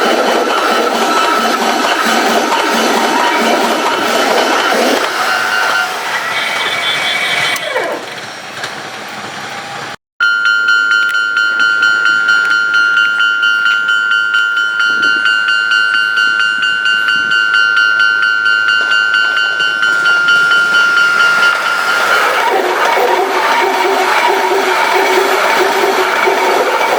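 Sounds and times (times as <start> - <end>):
level crossing warning bell: 0.0 - 6.1, 10.2 - 26.9.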